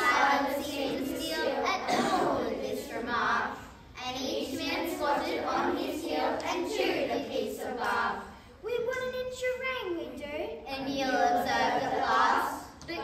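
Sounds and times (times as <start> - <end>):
children's choir singing: 0.0 - 8.4, 10.7 - 13.0.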